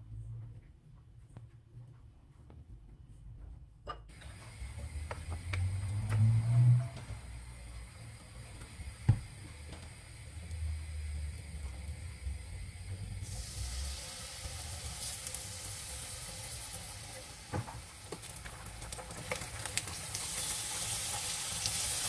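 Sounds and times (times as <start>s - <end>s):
eggplant sizzling in oil: 4.2s - 22.0s.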